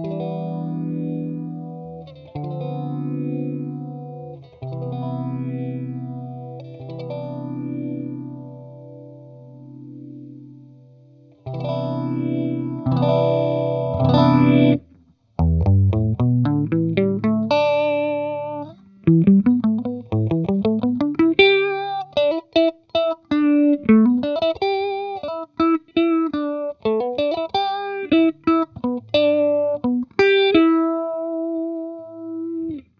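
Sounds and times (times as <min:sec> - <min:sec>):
clean electric guitar with phaser: 0:00.0 - 0:32.9.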